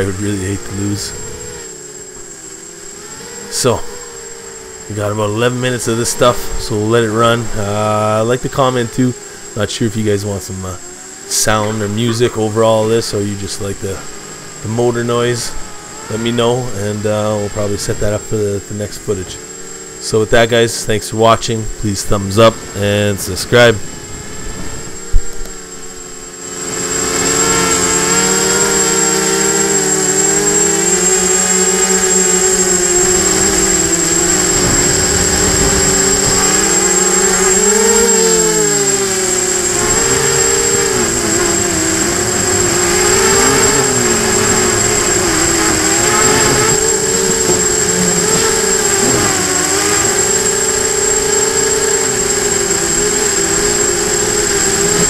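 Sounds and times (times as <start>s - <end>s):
steady high tone: 0.0s - 20.6s, 24.4s - 55.0s
drone motors whining: 0.0s - 55.0s.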